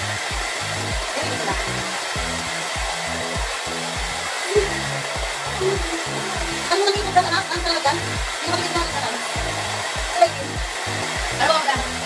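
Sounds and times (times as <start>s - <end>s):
hair dryer blowing: 0.0s - 12.0s
low rhythmic pulsing: 0.0s - 12.0s.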